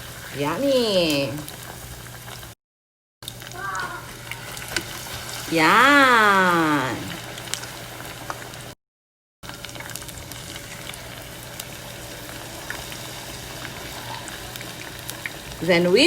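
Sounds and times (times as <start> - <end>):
deep-frying sizzle with pops: 0.0 - 2.6, 3.2 - 8.8, 9.4 - 16.0.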